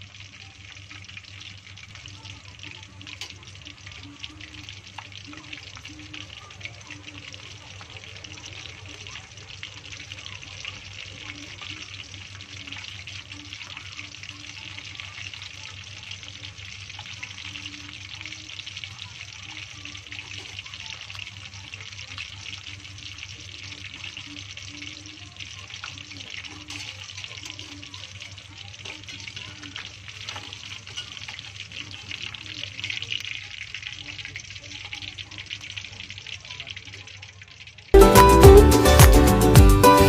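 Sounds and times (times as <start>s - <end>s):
small crackles: 0.0s - 38.0s
hot oil sizzling in a wok: 0.0s - 39.0s.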